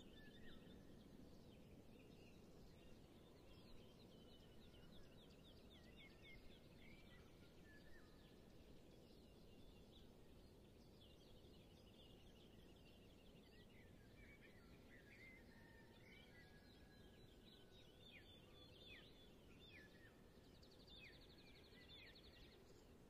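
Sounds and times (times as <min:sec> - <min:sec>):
low background hiss: 0:00.0 - 0:23.0.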